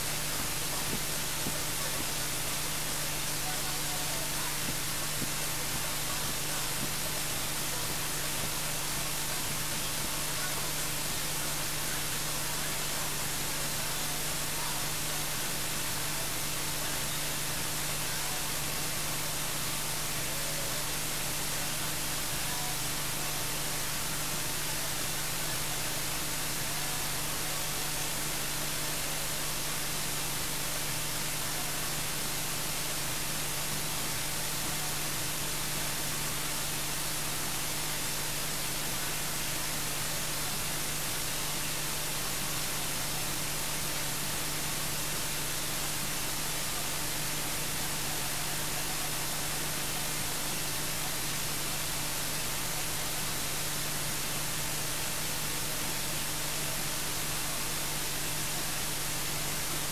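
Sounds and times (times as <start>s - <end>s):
faint constant hum: 0.0s - 59.9s
steady electronic hiss: 0.0s - 59.9s.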